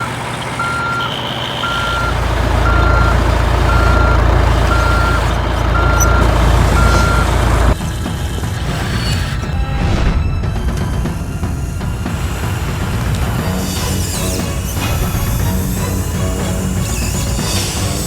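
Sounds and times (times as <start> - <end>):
low engine rumble: 0.0 - 18.0
truck reversing alarm beeping: 0.0 - 18.0.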